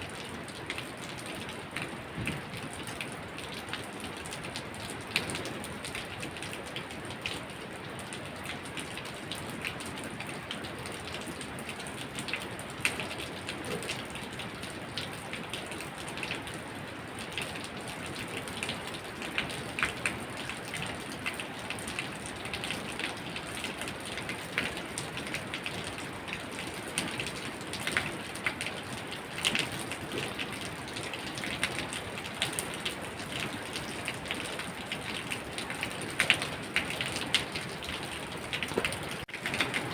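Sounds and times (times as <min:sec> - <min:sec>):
rain drops on hard surface: 0:00.0 - 0:39.9.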